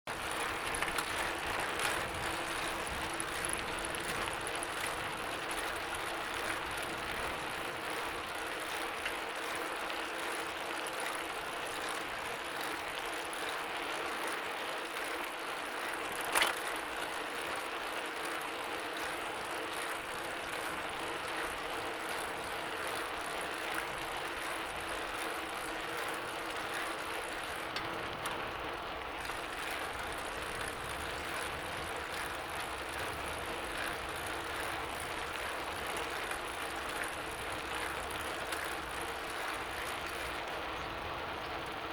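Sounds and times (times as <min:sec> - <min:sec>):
bicycle chain ticking: 0:00.1 - 0:41.8.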